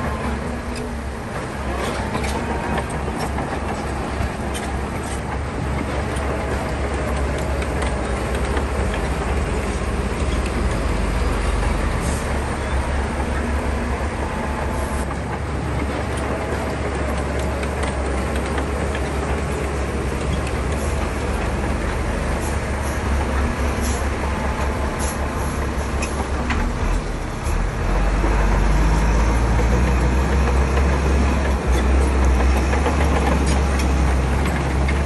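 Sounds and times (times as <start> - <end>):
diesel engine rumble: 0.0 - 35.0
machinery clanks and clicks: 0.0 - 35.0.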